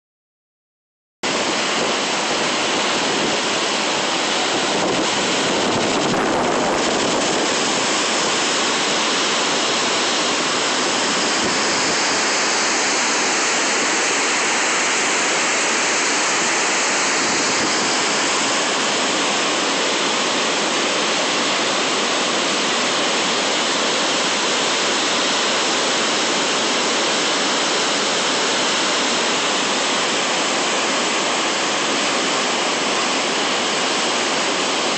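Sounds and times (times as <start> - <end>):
waterfall rushing: 1.3 - 34.9.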